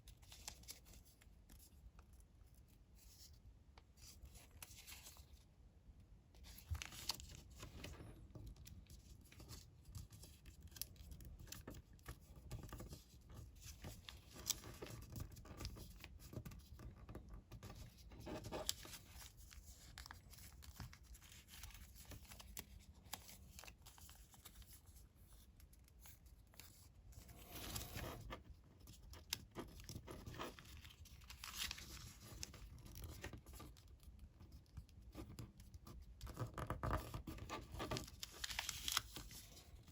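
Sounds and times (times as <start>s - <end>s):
paper rustling and crinkling: 0.0s - 3.4s, 4.0s - 5.4s, 6.4s - 39.9s.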